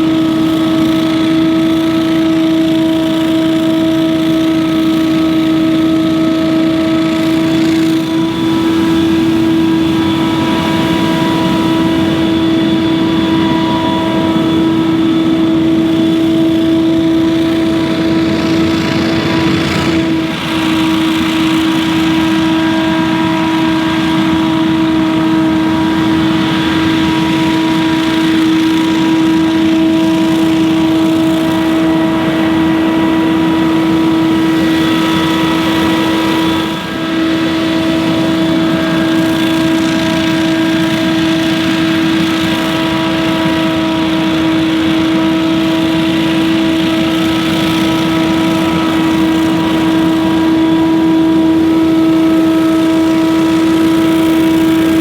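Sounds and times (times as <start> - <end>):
leaf blower running: 0.0 - 55.0.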